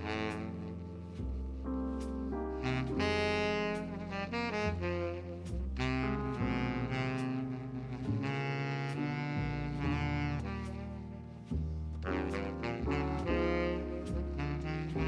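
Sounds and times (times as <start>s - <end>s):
saxophone-like lead melody: 0.0s - 15.0s
walking bass: 0.0s - 15.0s.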